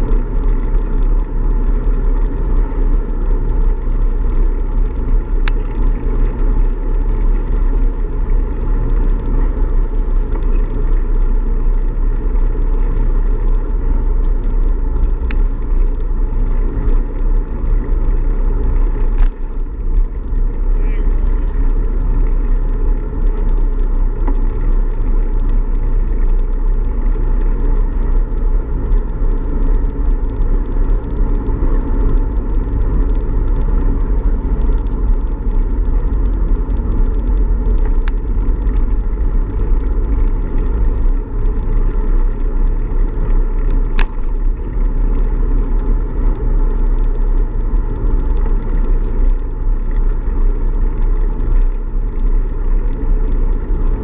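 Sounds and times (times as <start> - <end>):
road rumble: 0.0 - 54.0.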